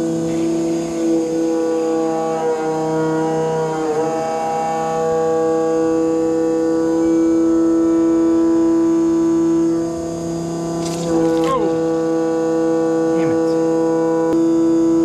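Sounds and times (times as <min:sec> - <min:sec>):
droning music chords: 0:00.0 - 0:15.0.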